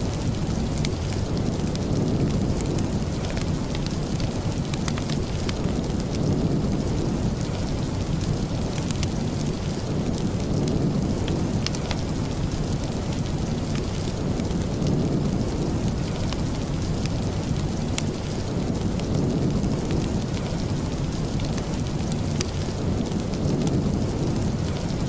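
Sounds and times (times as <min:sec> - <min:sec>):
deep continuous rumble: 0:00.0 - 0:25.0
steady rain: 0:00.0 - 0:25.0.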